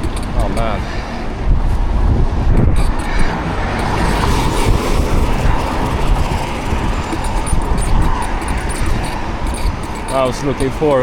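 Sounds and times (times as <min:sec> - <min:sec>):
road traffic noise: 0:00.0 - 0:11.0
wind rumbling on microphone: 0:00.0 - 0:11.0.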